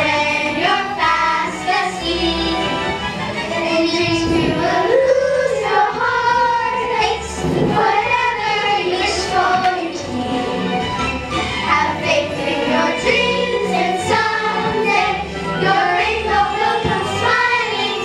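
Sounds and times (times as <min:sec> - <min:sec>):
children singing: 0:00.0 - 0:10.8, 0:11.5 - 0:18.0
musical accompaniment: 0:00.0 - 0:18.0.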